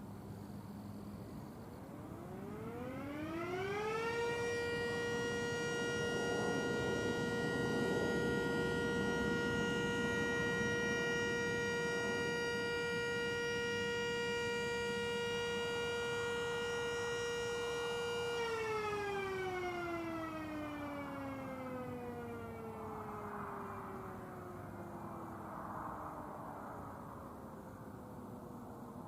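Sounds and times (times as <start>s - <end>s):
distant siren winding up: 1.8s - 25.4s.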